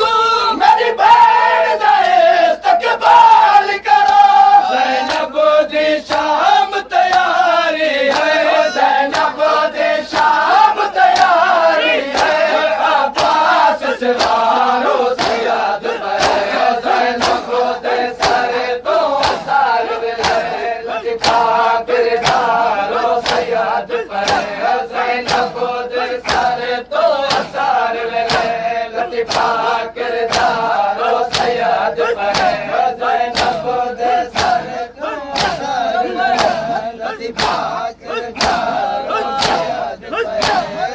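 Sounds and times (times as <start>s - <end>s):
men chanting in unison: 0.0s - 40.9s
rhythmic chest-beating strikes: 0.0s - 40.9s.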